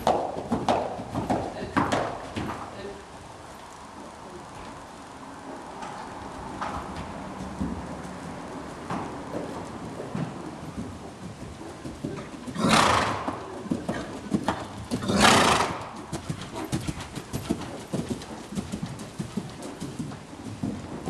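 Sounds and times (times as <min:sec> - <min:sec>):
hooves thudding in sand: 0:00.0 - 0:03.8, 0:05.8 - 0:21.0.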